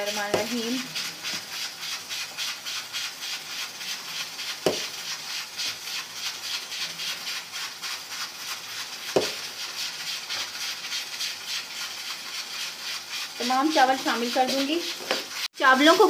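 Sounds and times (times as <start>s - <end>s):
water boiling and bubbling: 0.0s - 16.0s
rice poured into water: 0.1s - 16.0s.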